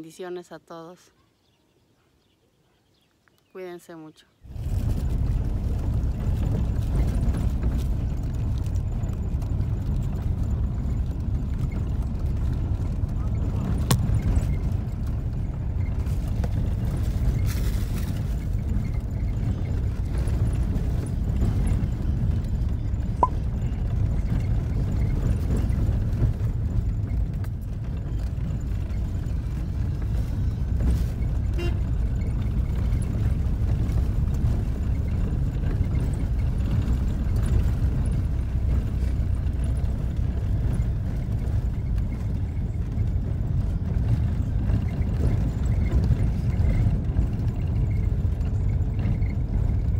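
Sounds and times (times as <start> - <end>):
car interior engine and road noise: 4.5 - 49.9.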